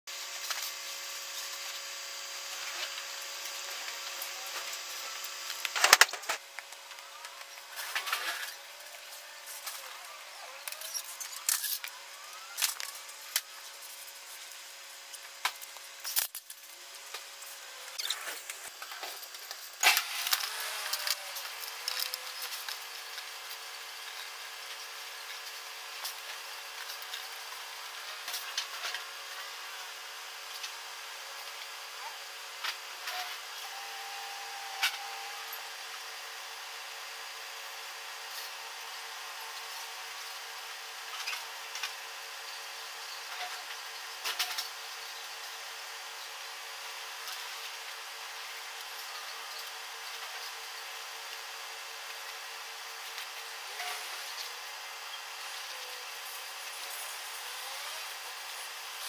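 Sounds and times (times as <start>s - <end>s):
steady mechanical hum: 0.1s - 59.0s.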